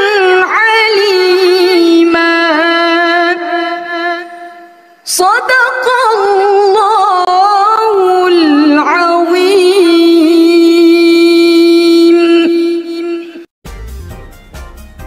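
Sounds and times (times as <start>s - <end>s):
woman reciting in melodic style: 0.0s - 13.5s.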